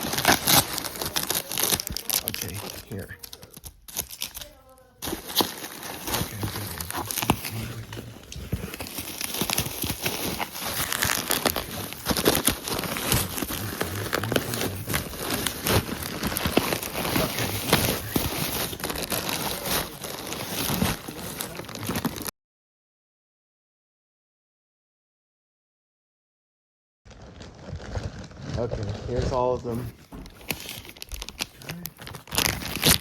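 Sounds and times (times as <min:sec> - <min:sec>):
packaging crinkling: 0:00.0 - 0:22.3, 0:27.1 - 0:33.0.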